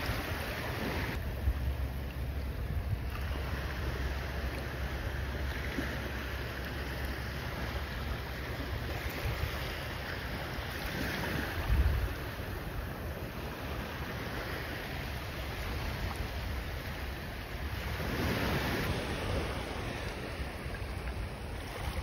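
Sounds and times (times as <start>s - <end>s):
ocean surf on beach: 0.0s - 22.0s
wind rumbling on microphone: 0.0s - 22.0s.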